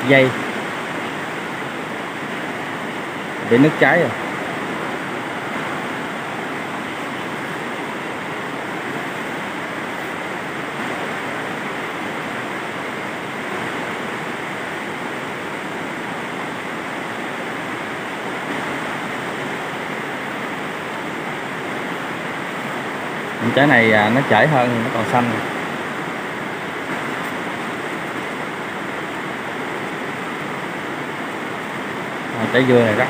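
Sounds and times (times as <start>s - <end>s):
steady rushing noise: 0.0s - 33.0s.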